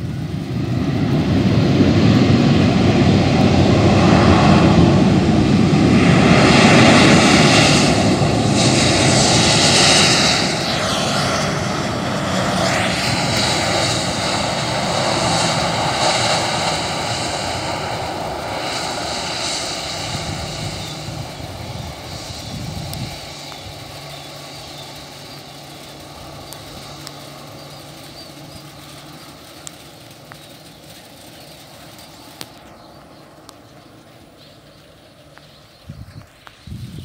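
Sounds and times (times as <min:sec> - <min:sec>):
jet engine noise with whine: 0:00.0 - 0:37.0.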